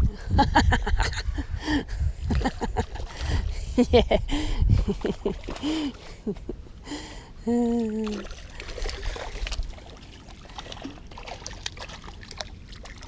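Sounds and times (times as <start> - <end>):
water trickling and lapping: 0.1 - 13.0.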